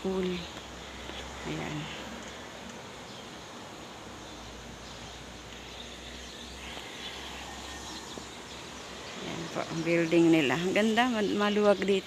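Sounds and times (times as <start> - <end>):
birds chirping: 0.0 - 12.0
insects chirping: 0.0 - 12.0.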